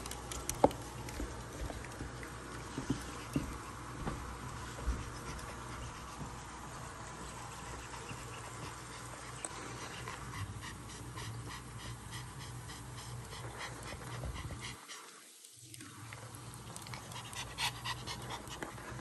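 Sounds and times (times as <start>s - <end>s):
dog panting: 0.0s - 15.1s, 16.8s - 19.0s.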